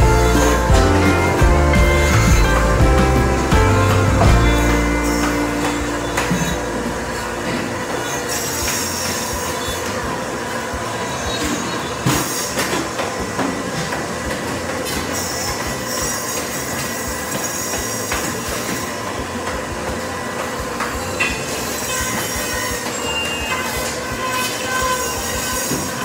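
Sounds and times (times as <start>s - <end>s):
band saw whining and squealing: 0.0s - 26.0s
processing machinery din: 0.0s - 26.0s.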